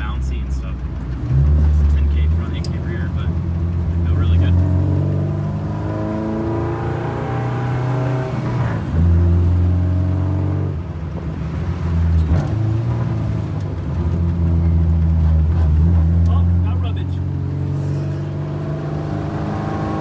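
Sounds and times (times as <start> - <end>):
car engine accelerating: 0.0 - 20.0
road noise: 0.0 - 20.0.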